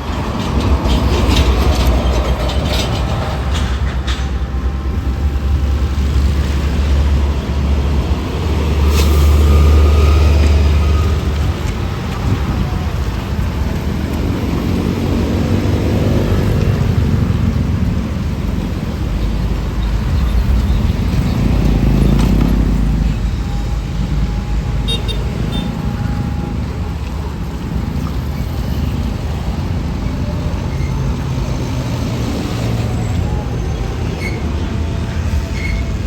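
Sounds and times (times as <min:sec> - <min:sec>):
large vehicles passing: 0:00.0 - 0:36.0.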